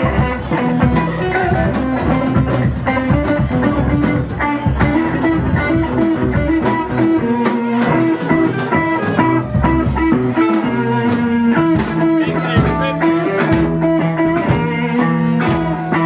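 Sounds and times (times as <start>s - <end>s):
drums steady beat: 0.0s - 16.0s
electric guitar: 0.0s - 16.0s.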